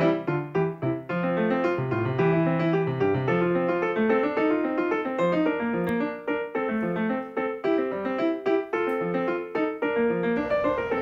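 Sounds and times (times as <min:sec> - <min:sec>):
gentle piano notes: 0:00.0 - 0:11.0.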